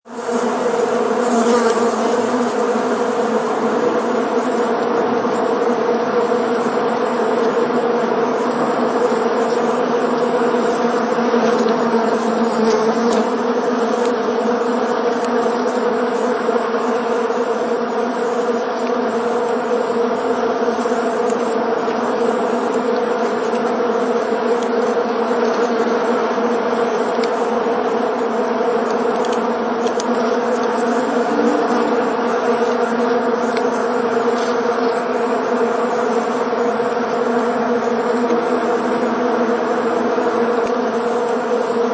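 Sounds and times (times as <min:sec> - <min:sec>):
swarm of bees buzzing: 0:00.1 - 0:41.9.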